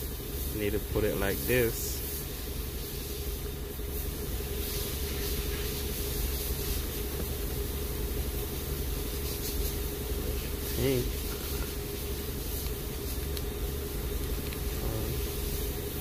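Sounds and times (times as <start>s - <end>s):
low mechanical hum with hiss: 0.0s - 16.0s.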